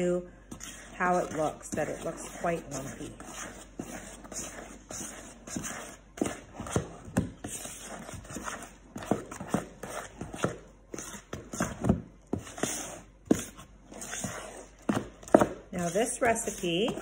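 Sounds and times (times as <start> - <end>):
utensil scraping plastic bowl: 0.5 - 17.0.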